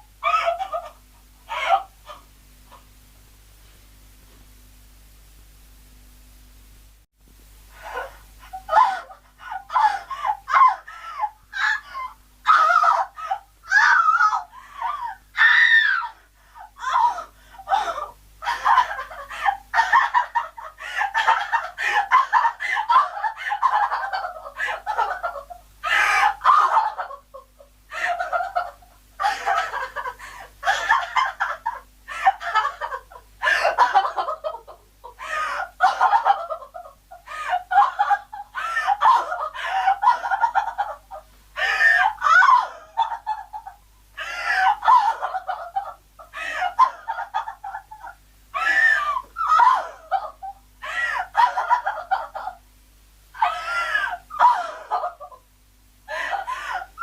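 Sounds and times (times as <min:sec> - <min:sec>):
woman crying hysterically: 0:00.2 - 0:02.3, 0:07.8 - 0:52.6, 0:53.4 - 0:55.4, 0:56.1 - 0:57.0.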